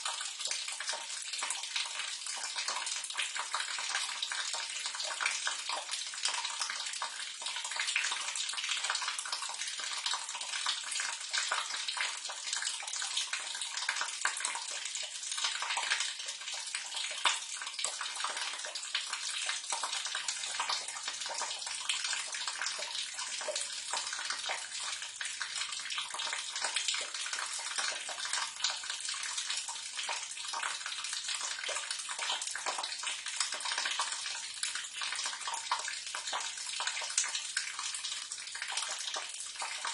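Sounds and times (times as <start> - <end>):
water splashing into drain: 0.0 - 39.9.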